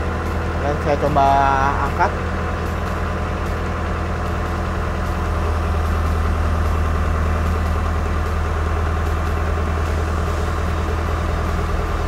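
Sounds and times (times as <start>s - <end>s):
hydraulics lifting: 0.0s - 12.0s
loader engine humming: 0.0s - 12.0s.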